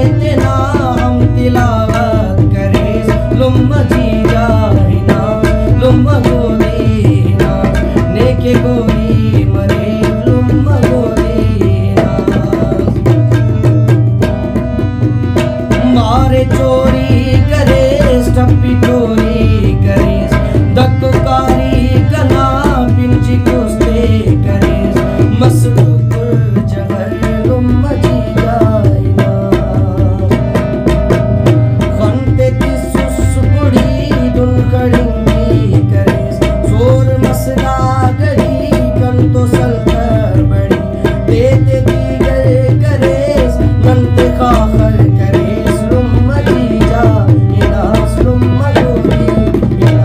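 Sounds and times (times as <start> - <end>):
harmonium: 0.0 - 50.0
man singing: 0.0 - 50.0
tabla playing: 0.0 - 50.0.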